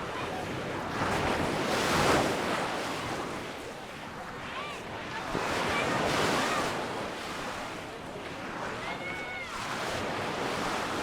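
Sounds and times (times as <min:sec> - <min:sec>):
waves washing on a beach: 0:00.0 - 0:11.0.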